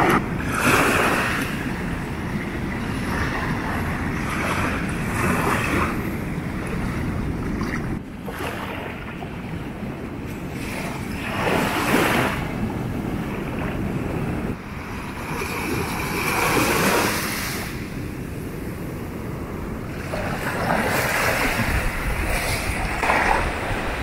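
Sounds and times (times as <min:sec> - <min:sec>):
small waves washing onto shore: 0:00.0 - 0:24.0
wind rumbling on microphone: 0:00.0 - 0:24.0.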